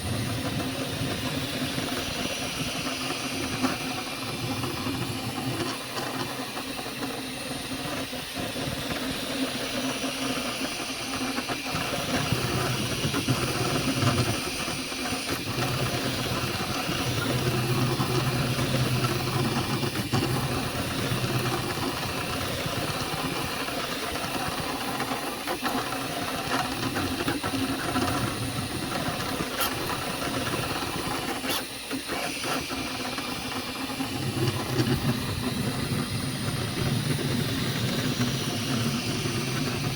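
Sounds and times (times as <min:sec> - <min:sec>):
printer fan hiss: 0:00.0 - 0:39.9
stepper motor hum: 0:00.0 - 0:39.9.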